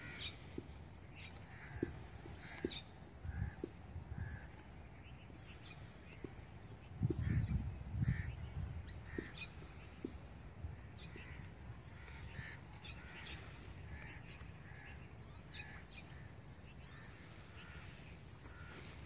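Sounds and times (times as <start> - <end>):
steady low rumble: 0.0 - 17.8
birds calling: 0.0 - 19.0.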